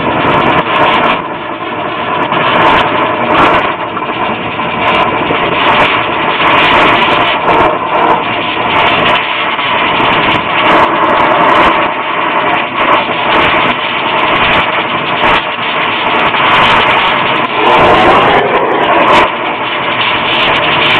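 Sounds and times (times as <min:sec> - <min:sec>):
brazing torch flame hissing: 0:00.0 - 0:20.9.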